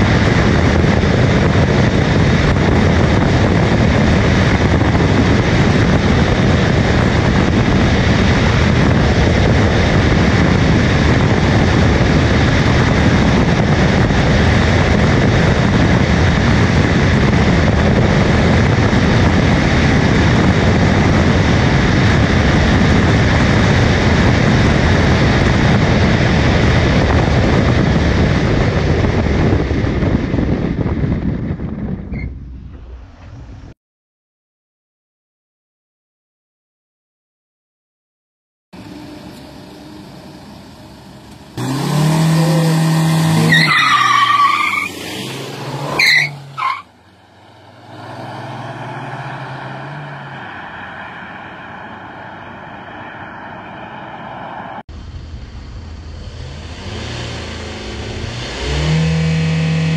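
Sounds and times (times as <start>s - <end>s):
road noise rumble: 0.0s - 33.8s, 38.7s - 59.9s
wind rushing: 0.0s - 33.8s, 41.6s - 59.2s.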